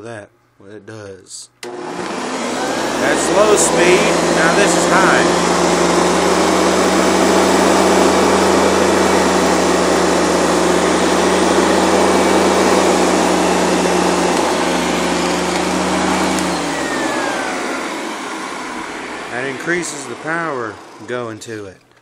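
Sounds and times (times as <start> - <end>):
vacuum cleaner running: 1.6 - 21.5.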